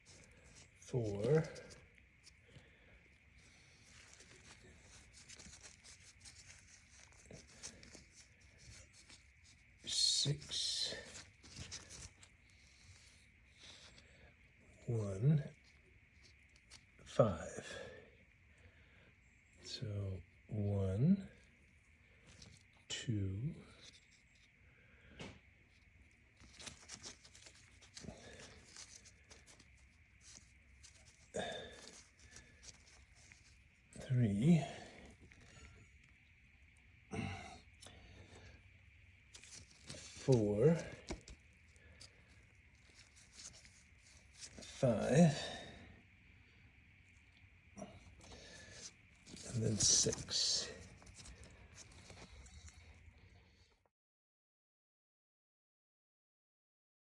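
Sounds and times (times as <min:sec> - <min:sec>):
faint small ticks and rustles: 0:00.0 - 0:20.5, 0:21.1 - 0:53.8.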